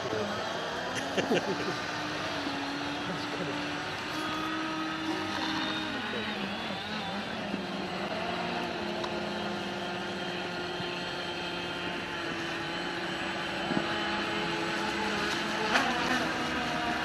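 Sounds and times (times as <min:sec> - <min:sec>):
model boat motors whining: 0:00.0 - 0:17.0.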